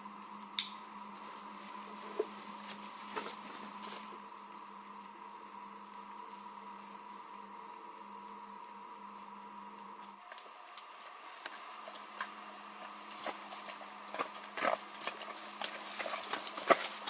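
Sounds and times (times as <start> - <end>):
jungle insects droning: 0.0 - 17.0.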